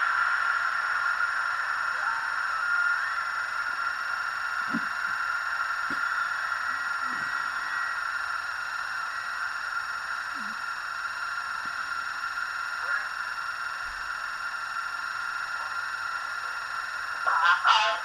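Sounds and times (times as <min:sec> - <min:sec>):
faint radio chirps: 0:00.0 - 0:13.9, 0:14.6 - 0:18.0
radio static hiss: 0:00.0 - 0:18.0.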